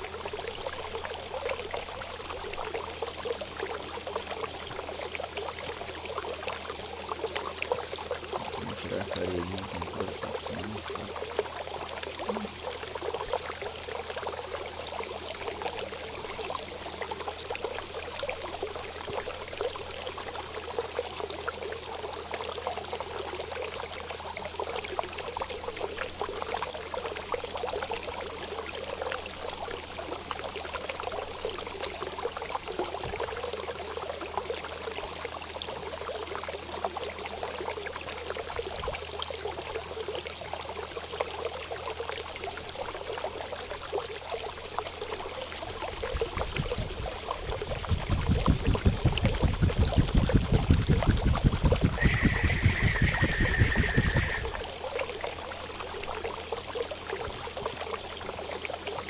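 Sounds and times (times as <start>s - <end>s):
water running and trickling: 0.0s - 59.0s.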